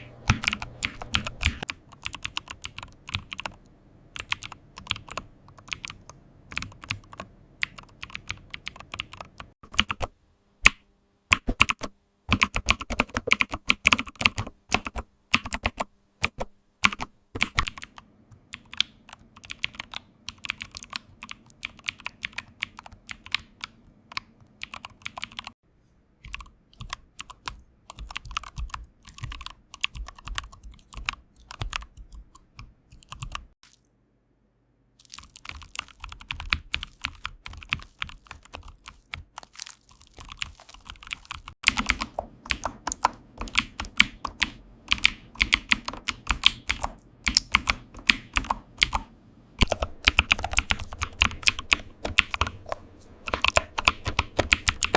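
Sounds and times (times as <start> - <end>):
computer keyboard typing: 0.3 - 10.0, 16.8 - 25.6, 26.2 - 33.6, 35.0 - 49.0, 49.6 - 52.6, 53.2 - 54.9.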